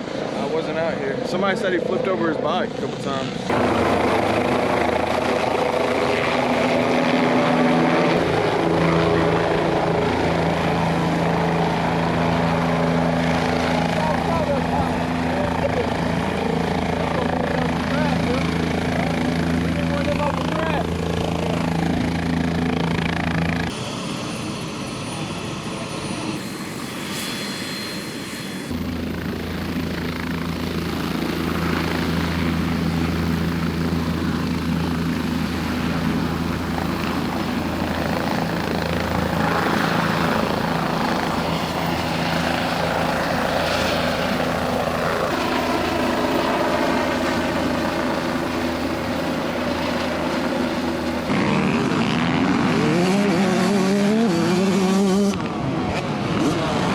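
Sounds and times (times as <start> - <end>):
helicopter droning: 0.0 - 56.9.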